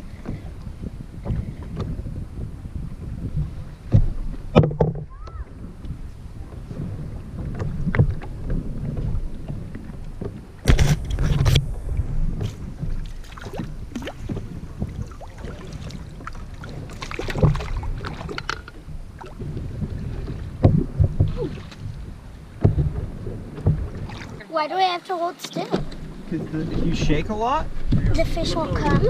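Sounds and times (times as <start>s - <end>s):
wind rumble on microphone: 0.0s - 24.4s, 25.7s - 29.0s
knocks and clatter in boat: 0.0s - 29.0s.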